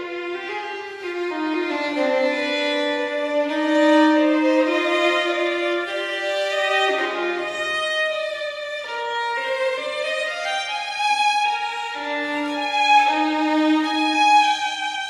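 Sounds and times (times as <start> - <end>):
slow bowed string melody: 0.0 - 15.0.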